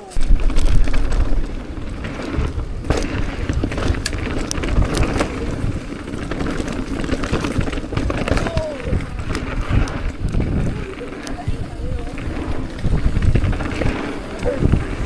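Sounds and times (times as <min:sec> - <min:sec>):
bike knocking and clattering: 0:00.0 - 0:15.0
bike tyres rolling on dirt: 0:00.0 - 0:15.0.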